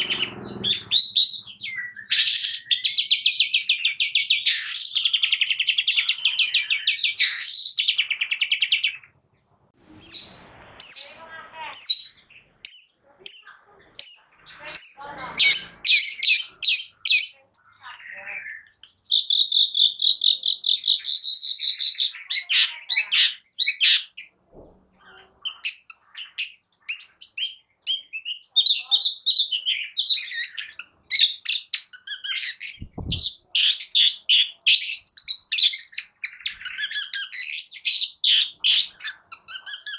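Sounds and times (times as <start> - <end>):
shrike singing chirps and trills: 0.0 - 9.1, 10.0 - 24.4, 25.3 - 39.9.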